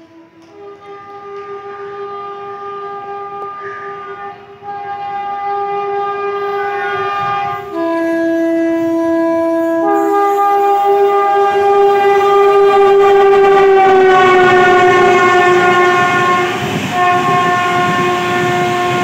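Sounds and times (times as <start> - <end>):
electric locomotive horn blast: 0.0 - 19.0.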